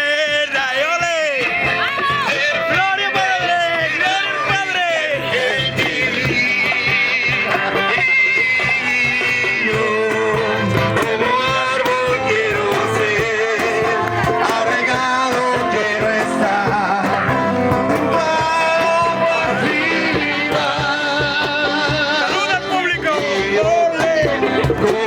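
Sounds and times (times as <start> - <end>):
guitar: 0.0 - 25.0
voices singing worship song: 0.0 - 25.0.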